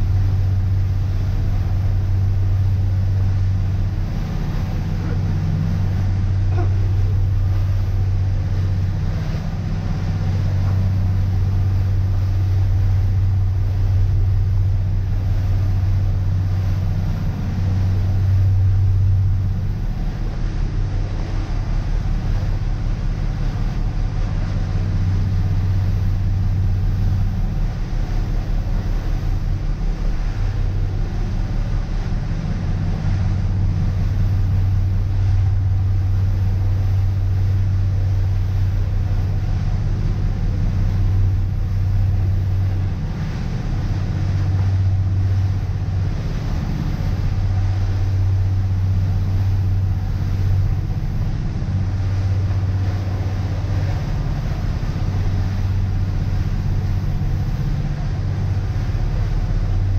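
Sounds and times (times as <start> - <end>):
boat engine drone: 0.0 - 59.9
wind and water rushing: 0.0 - 59.9.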